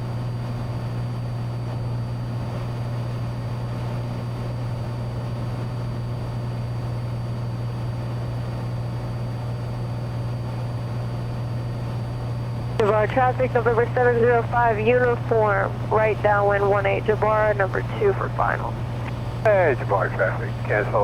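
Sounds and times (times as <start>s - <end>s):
airplane engine droning in cabin: 0.0s - 21.0s.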